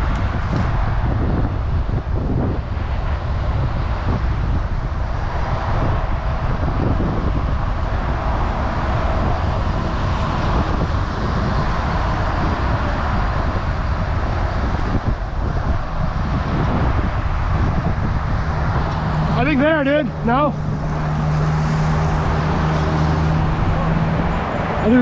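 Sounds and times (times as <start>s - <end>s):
road traffic rushing: 0.0s - 25.0s
wind rumble on microphone: 0.0s - 25.0s.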